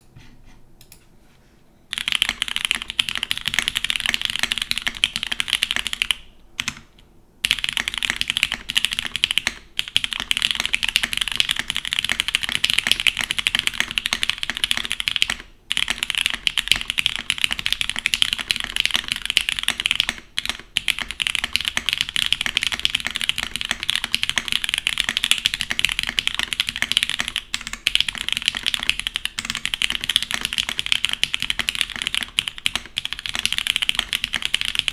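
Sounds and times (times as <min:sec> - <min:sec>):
typing on mechanical keyboard: 0:01.9 - 0:34.9.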